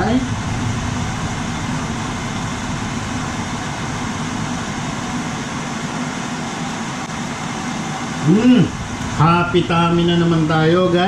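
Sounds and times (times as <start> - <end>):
faint low hum: 0.0 - 11.0
fan whirring: 0.0 - 11.0.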